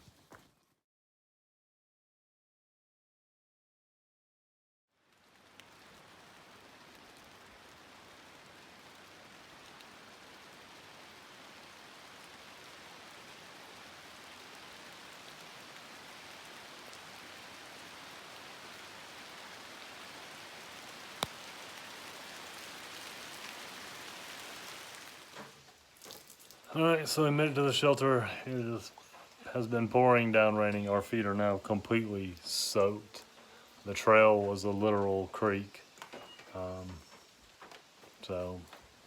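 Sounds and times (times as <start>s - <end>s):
heavy rain pouring: 5.0s - 39.0s.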